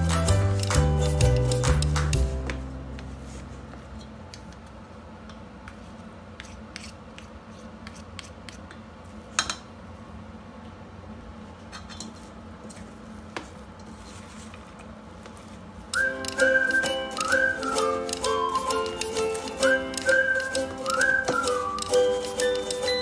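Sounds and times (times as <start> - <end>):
low steady hum: 0.0 - 22.2.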